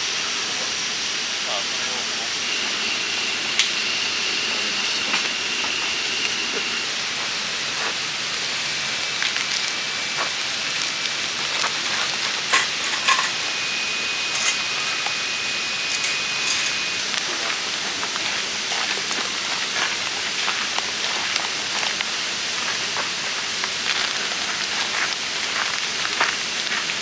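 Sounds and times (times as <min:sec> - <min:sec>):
food sizzling in a pan: 0:02.5 - 0:27.0.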